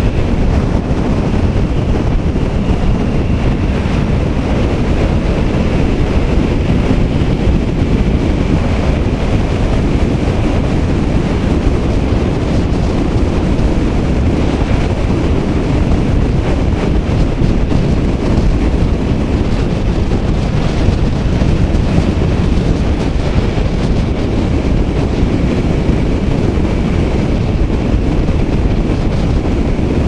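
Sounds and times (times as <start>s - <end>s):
motorcycle running: 0.0s - 30.0s
road noise: 0.0s - 30.0s
wind rushing over microphone: 0.0s - 30.0s.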